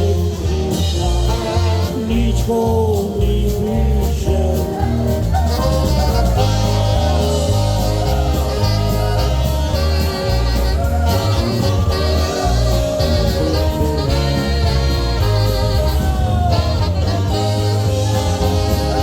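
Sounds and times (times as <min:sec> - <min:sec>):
polka band playing: 0:00.0 - 0:19.0
pulsing bass beat: 0:00.0 - 0:19.0.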